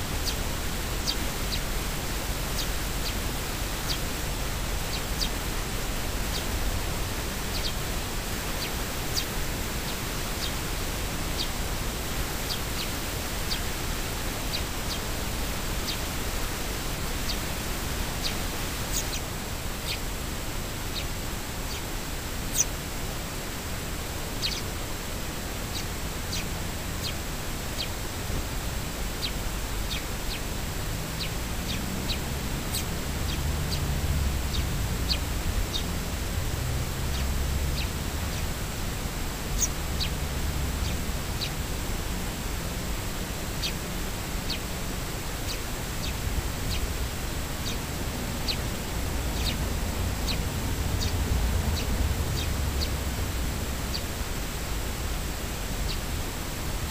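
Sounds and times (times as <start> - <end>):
low background rumble: 0.0 - 56.9
sparrows chirping: 0.1 - 56.2.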